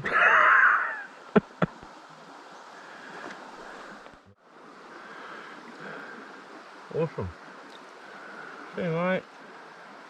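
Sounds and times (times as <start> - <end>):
river water running: 0.0 - 10.0.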